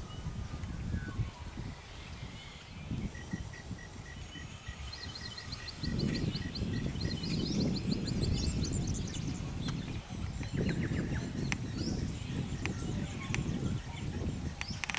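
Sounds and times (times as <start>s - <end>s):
wind rumble on microphone: 0.0s - 14.9s
bird chirping and trilling: 0.9s - 14.9s.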